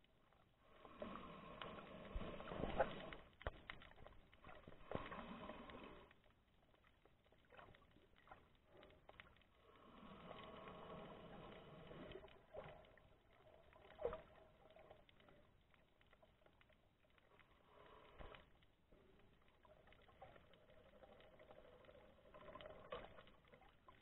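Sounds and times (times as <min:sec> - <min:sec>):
muffled underwater water movement: 0:00.0 - 0:24.0.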